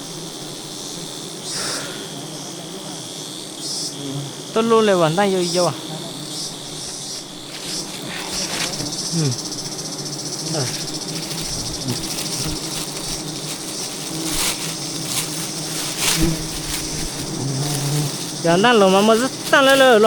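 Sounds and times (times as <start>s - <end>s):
insect buzzing: 0.0s - 20.0s.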